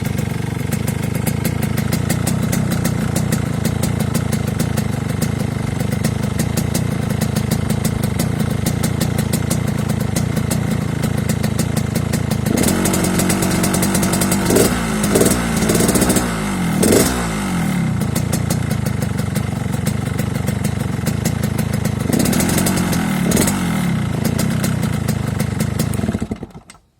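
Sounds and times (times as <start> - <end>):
two-stroke motorcycle engine idling: 0.0 - 26.8.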